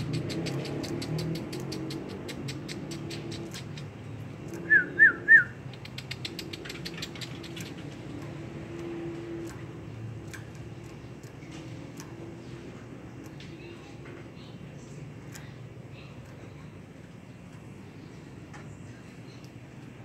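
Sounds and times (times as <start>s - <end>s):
soft rapid clicks: 0.0s - 4.7s, 5.6s - 20.0s.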